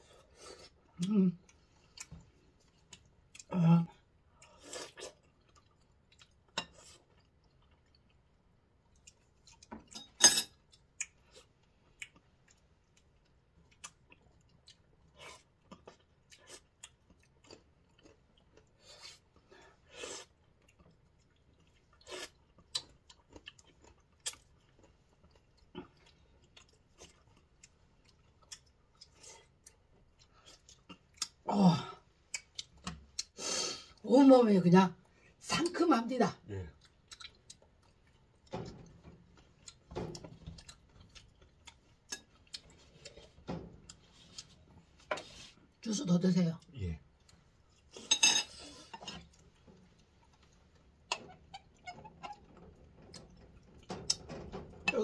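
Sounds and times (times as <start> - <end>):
people chewing soft fruit: 0.0 - 10.0, 10.6 - 34.1, 36.4 - 55.0.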